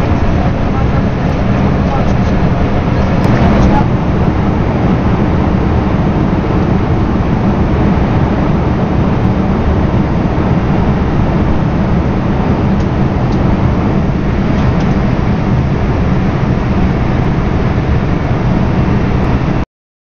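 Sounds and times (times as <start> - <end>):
rushing air: 0.0 - 19.6.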